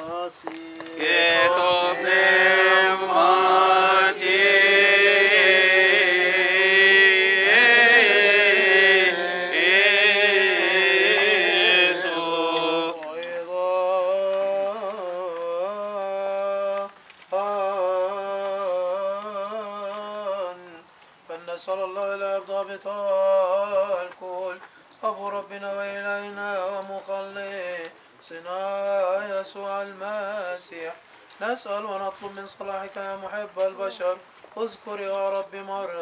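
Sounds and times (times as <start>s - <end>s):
voices chanting a slow hymn: 0.0s - 36.0s.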